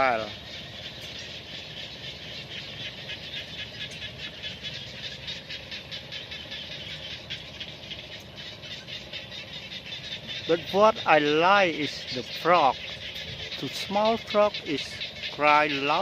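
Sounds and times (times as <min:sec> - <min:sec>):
frogs calling in chorus: 0:00.0 - 0:16.0.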